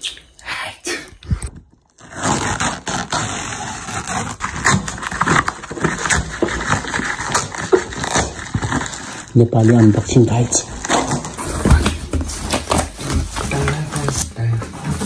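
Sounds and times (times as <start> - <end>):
bubble wrap crinkling: 1.8 - 15.0
cardboard and tape tearing: 1.8 - 15.0.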